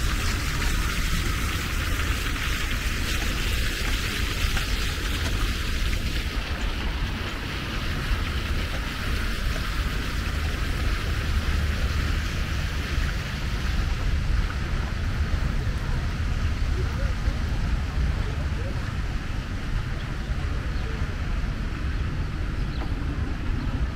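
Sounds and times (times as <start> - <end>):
water fountains splashing: 0.0 - 23.9.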